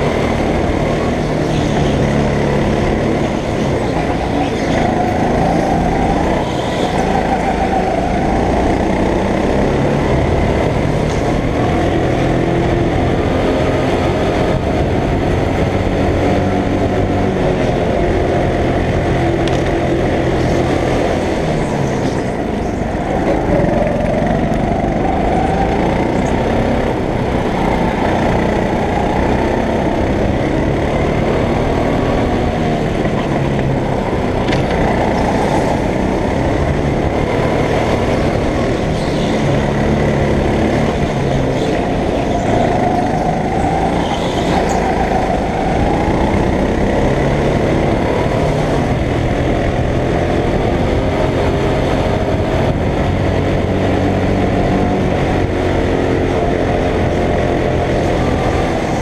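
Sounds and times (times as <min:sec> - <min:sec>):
go-kart engine running hard: 0:00.0 - 0:59.0.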